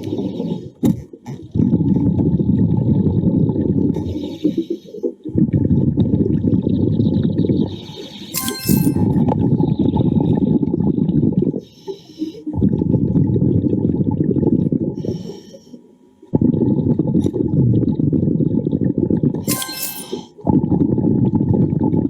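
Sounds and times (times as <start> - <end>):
exhaled bubbles gurgling underwater: 0.0 - 8.2, 9.3 - 19.4, 20.4 - 22.0.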